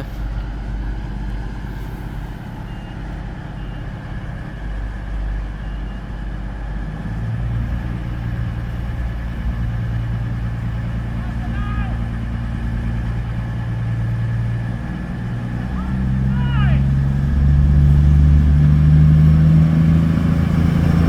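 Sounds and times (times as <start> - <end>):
diesel train engines rumbling: 0.0 - 21.0.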